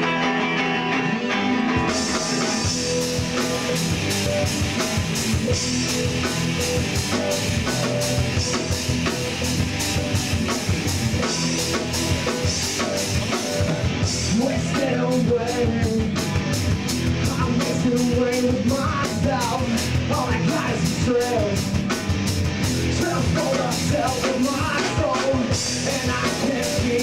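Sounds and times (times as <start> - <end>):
drum kit with cymbals: 0.0 - 27.0
electric guitar: 0.0 - 27.0.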